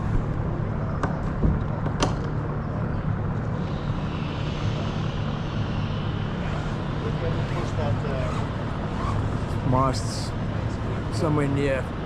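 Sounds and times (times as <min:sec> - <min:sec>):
low mechanical drone: 0:00.0 - 0:12.0
outdoor noise: 0:00.0 - 0:12.0.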